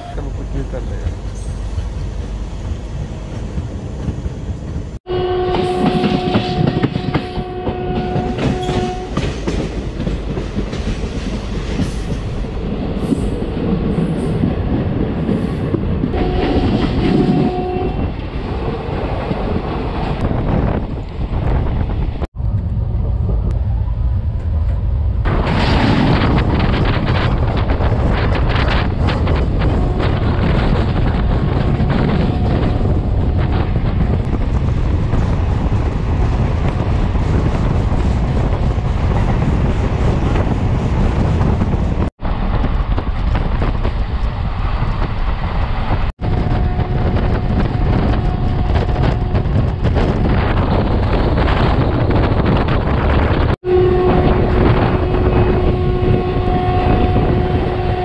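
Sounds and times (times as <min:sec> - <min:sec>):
train running rumble: 0:00.0 - 0:58.0
wind buffeting microphone: 0:00.7 - 0:58.0.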